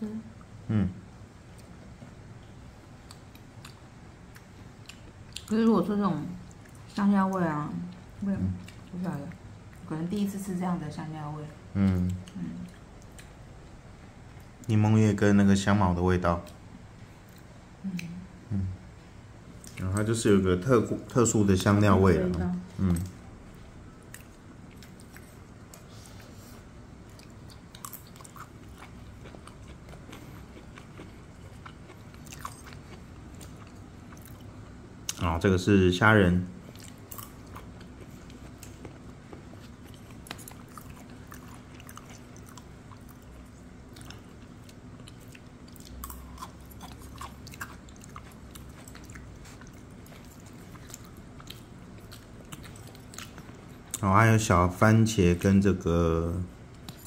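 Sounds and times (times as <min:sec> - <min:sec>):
low background hum: 0:00.0 - 0:57.0
man chewing food: 0:01.4 - 0:05.5, 0:06.4 - 0:10.3, 0:11.8 - 0:14.8, 0:16.4 - 0:20.3, 0:22.1 - 0:35.4, 0:36.5 - 0:54.1, 0:56.6 - 0:57.0.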